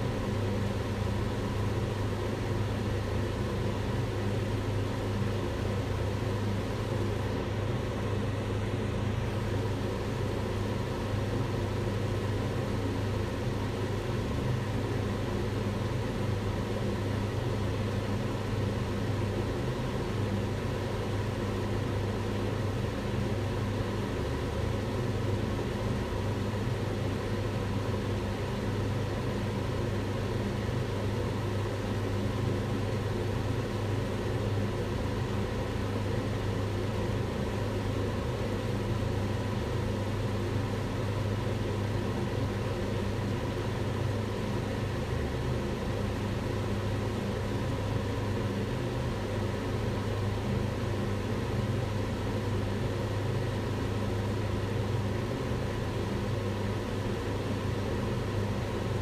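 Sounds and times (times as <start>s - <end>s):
range hood fan running: 0.0s - 59.0s.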